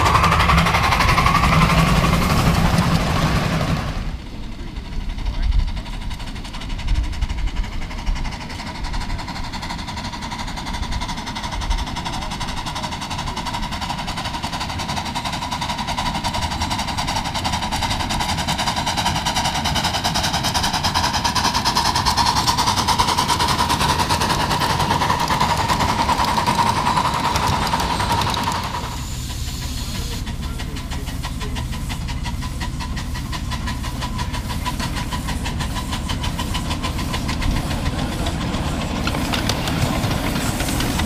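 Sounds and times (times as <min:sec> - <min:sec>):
miniature train wheels clattering: 0:00.0 - 0:41.0.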